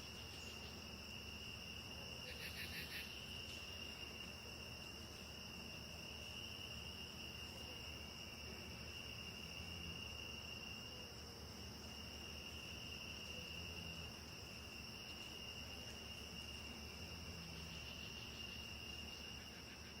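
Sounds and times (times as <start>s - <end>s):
crickets and katydids trilling: 0.0s - 20.0s.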